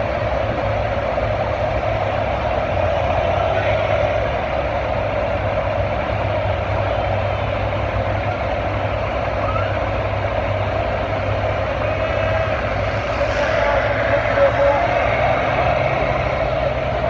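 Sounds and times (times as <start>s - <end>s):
distant tractor engine drone: 0.0s - 17.0s.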